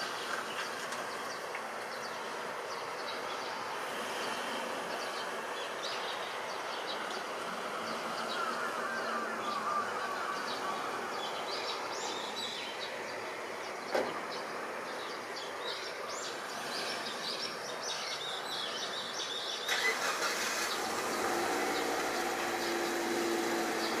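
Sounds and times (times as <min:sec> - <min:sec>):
small birds chirping: 0:00.0 - 0:24.0
urban background noise: 0:00.0 - 0:24.0.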